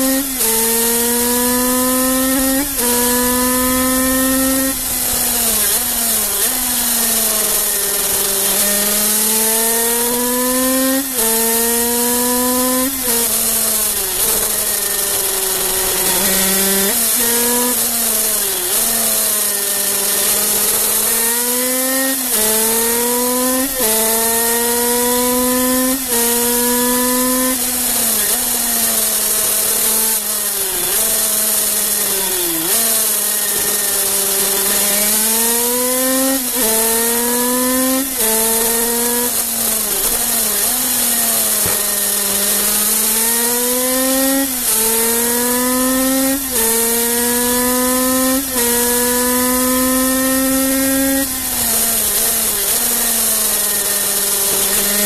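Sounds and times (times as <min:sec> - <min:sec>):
two-stroke racing engine revving: 0:00.0 - 0:55.0.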